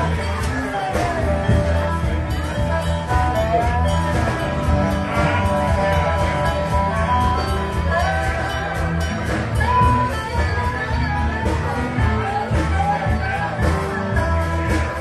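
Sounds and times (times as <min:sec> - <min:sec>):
bass line: 0:00.0 - 0:15.0
live band playing: 0:00.0 - 0:15.0
steady drum beat: 0:00.0 - 0:15.0.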